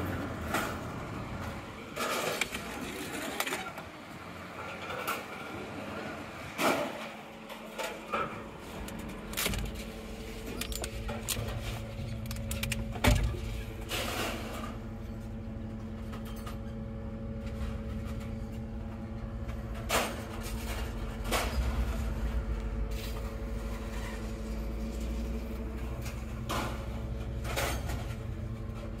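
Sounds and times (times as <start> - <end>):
heavy machine engine rumble: 0.0 - 29.0.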